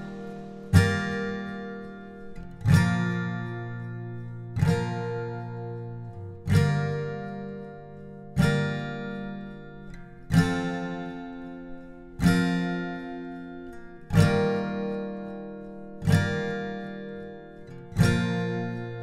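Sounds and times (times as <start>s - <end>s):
acoustic guitar chords strummed: 0.0s - 19.0s.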